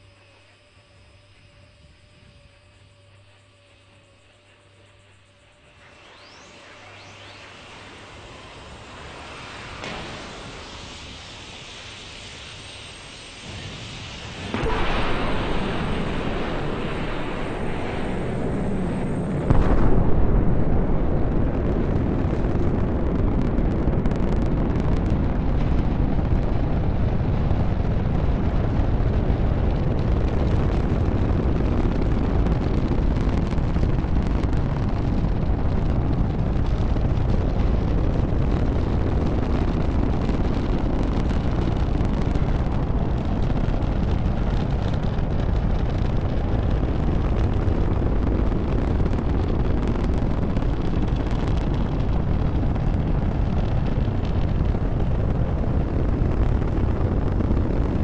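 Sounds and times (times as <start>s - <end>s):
rocket booster roaring: 6.1s - 58.0s.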